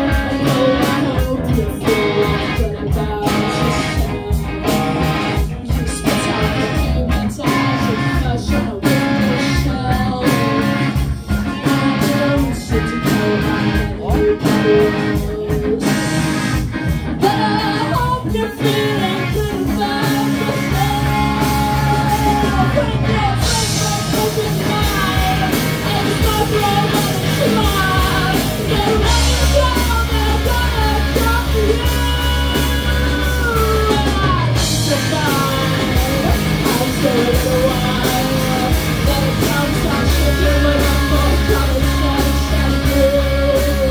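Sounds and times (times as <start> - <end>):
live rock band playing: 0.0 - 43.9
person singing: 0.0 - 43.9.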